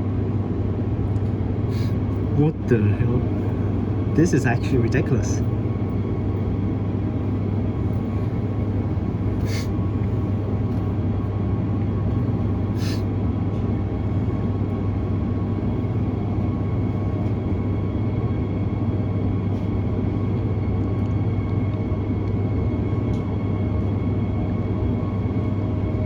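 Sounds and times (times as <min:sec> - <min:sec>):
train low drone: 0:00.0 - 0:26.0.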